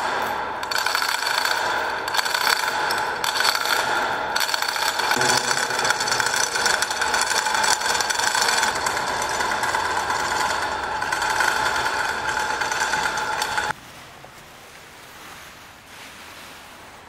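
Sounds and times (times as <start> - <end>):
chain hoist rattling and whining: 0.0 - 13.7.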